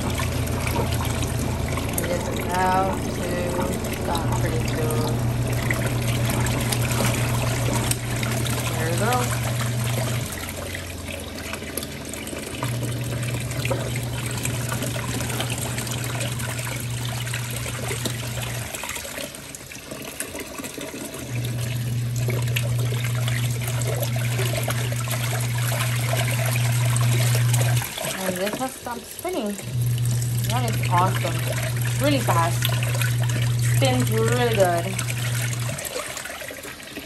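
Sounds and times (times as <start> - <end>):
washing machine motor humming: 0.0 - 37.0
water sloshing in a tub: 0.0 - 37.0.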